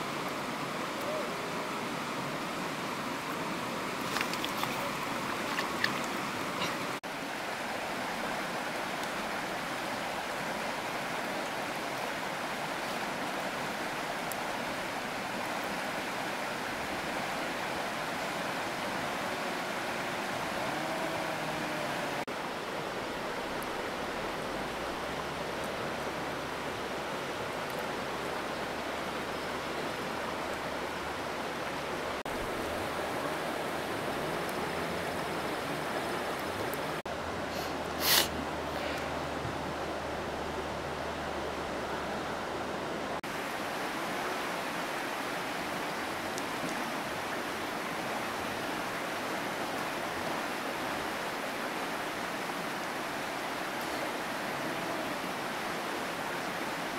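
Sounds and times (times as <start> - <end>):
flowing water rushing: 0.0 - 56.9.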